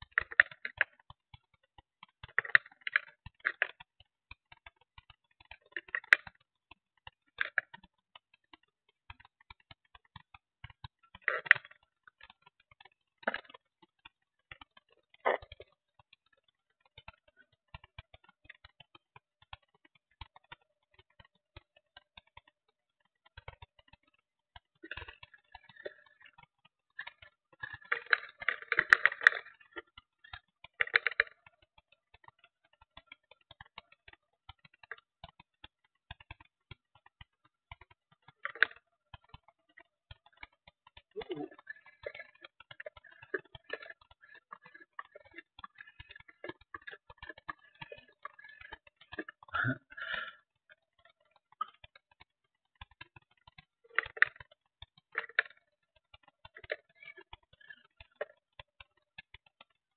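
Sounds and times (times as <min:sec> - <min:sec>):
rapid clicking and rattling: 0:00.0 - 0:59.9
sparse clicks and ticks: 0:00.0 - 0:59.9.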